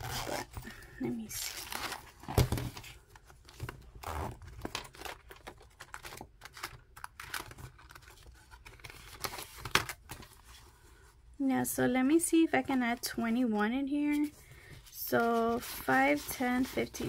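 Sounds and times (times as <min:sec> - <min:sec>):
banknotes crinkling: 0:00.0 - 0:11.0, 0:14.1 - 0:17.0
plastic pages rustling: 0:00.0 - 0:11.0, 0:14.1 - 0:17.0.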